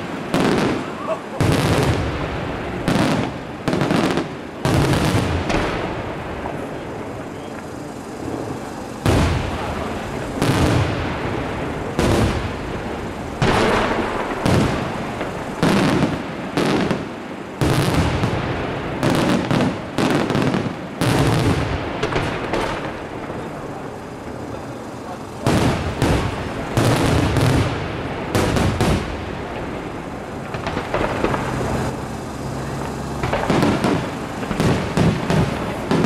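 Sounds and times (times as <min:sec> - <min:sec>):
firework shells booming: 0:00.0 - 0:36.0.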